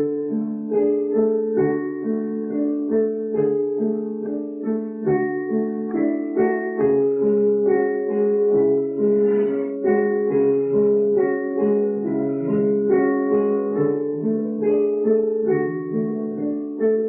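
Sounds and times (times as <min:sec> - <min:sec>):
piano playing chords: 0:00.0 - 0:17.0.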